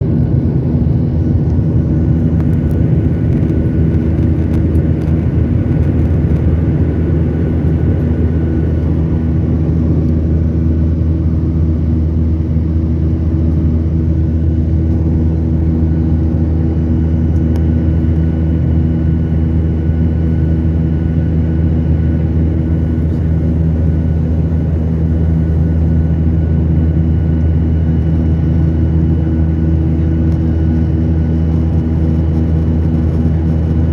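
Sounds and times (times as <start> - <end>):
airliner engine drone: 0.0 - 33.9.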